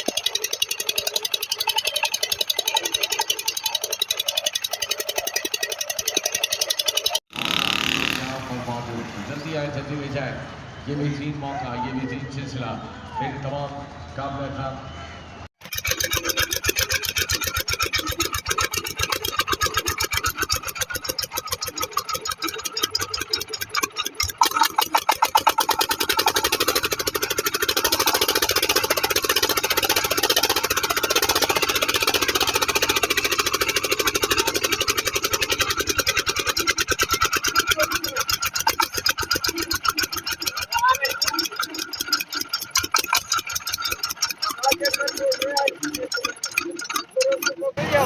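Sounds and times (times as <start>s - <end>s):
diesel engine knocking: 0.0s - 8.2s, 15.6s - 48.0s.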